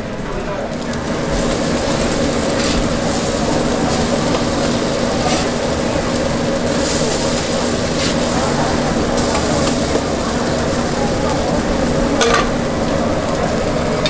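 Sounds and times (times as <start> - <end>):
pancakes sizzling in oil: 0.7 - 14.0.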